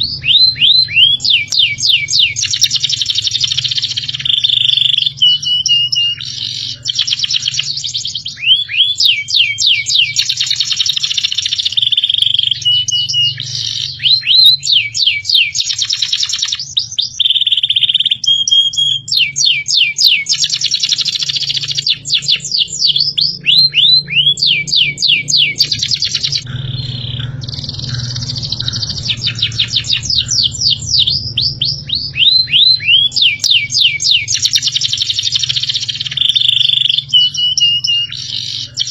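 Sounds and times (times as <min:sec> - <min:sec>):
steady low hum: 0:00.0 - 0:15.3, 0:20.4 - 0:38.9
recorded songbird whistling: 0:00.0 - 0:38.9.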